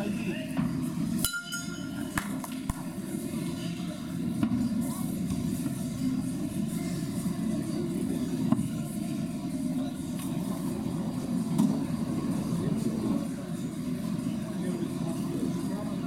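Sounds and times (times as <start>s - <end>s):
low rumble of hall noise: 0.0s - 16.0s.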